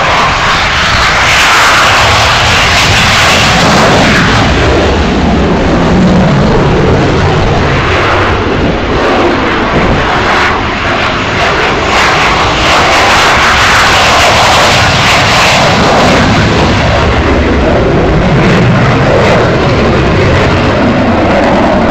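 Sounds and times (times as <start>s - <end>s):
jet engine roar: 0.0s - 21.9s.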